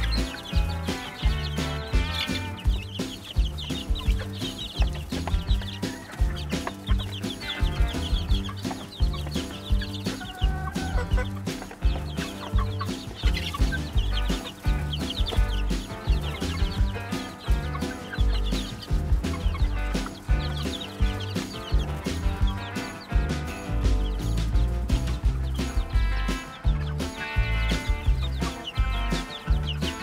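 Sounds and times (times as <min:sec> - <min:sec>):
background music with steady beat: 0:00.0 - 0:30.0
chicks peeping: 0:00.0 - 0:30.0.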